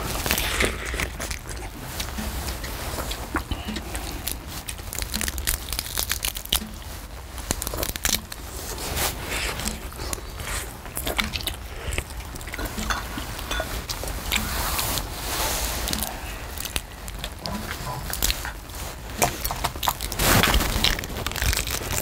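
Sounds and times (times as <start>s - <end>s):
chewing and crunching shells: 0.0s - 22.0s.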